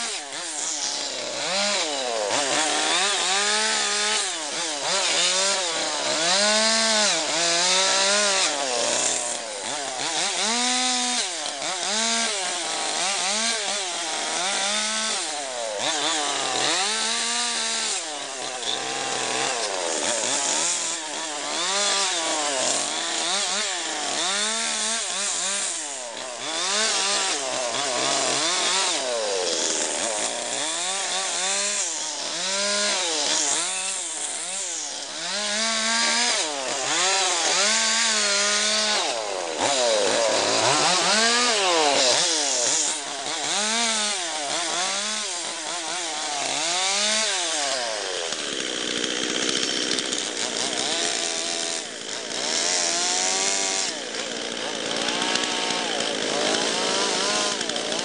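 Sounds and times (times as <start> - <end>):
chainsaw revving cutting log: 0.0 - 58.0.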